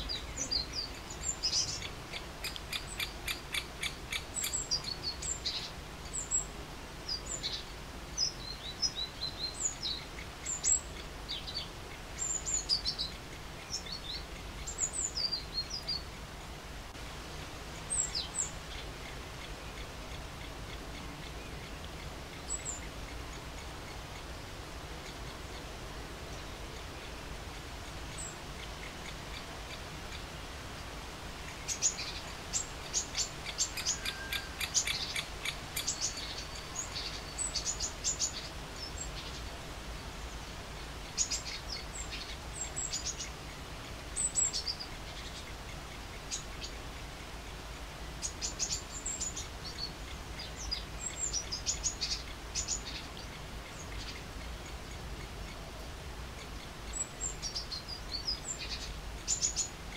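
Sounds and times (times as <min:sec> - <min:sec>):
birds chirping: 0:00.0 - 0:16.5, 0:17.7 - 0:59.9.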